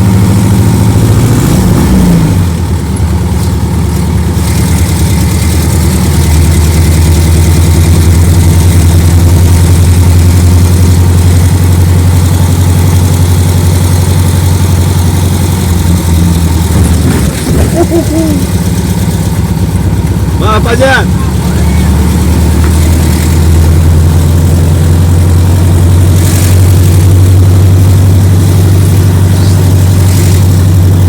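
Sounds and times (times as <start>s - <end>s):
buggy engine running: 0.0s - 31.0s.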